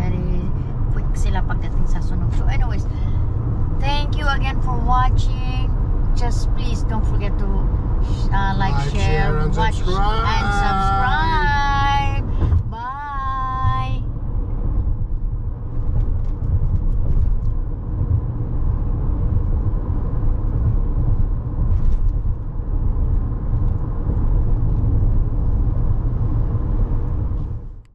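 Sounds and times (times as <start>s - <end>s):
moving vehicle rumble: 0.0s - 27.9s.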